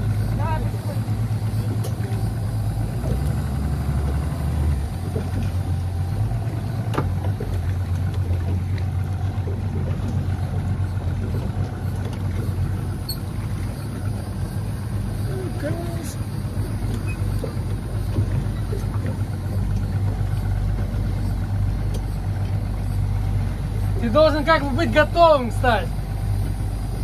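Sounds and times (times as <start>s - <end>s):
outboard motor running at low speed: 0.0s - 27.0s.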